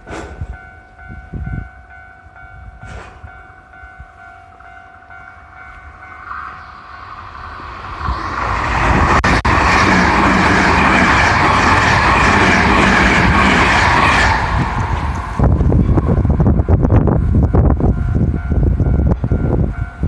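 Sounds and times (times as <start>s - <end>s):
train passing close: 0.0s - 20.0s.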